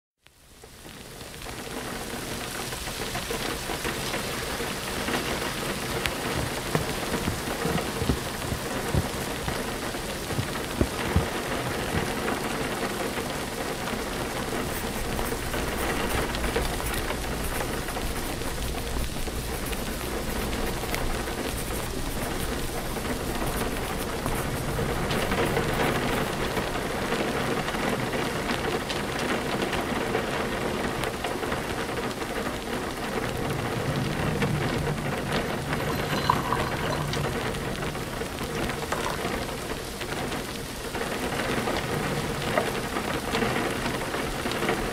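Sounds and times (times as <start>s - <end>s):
steady rain falling: 0.2s - 44.9s
raindrops tapping: 2.6s - 30.4s, 31.0s - 44.9s.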